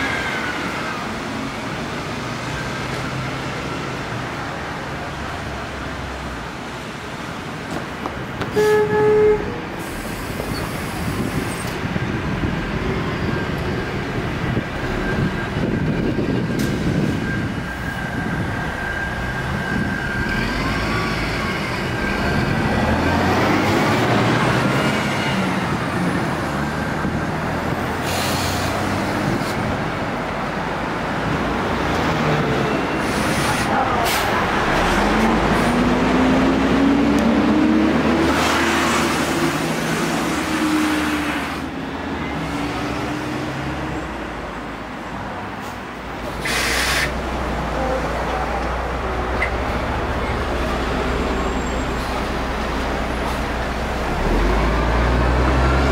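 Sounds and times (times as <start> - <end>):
diesel bus engine: 0.0 - 55.9
street traffic: 0.0 - 55.9.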